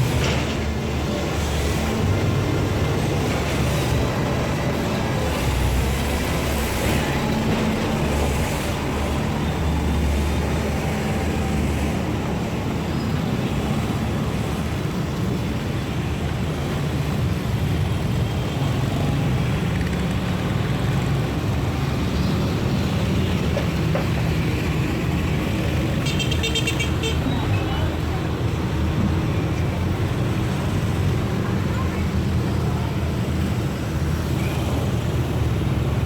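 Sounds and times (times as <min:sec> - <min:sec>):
vehicle engines passing: 0:00.0 - 0:36.0.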